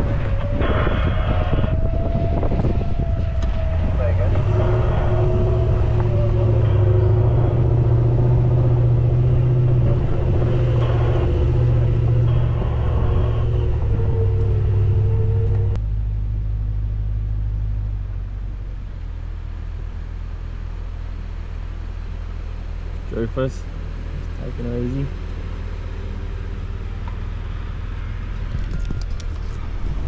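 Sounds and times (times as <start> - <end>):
low hum: 0.0 - 30.0
vehicle engine running: 0.0 - 30.0.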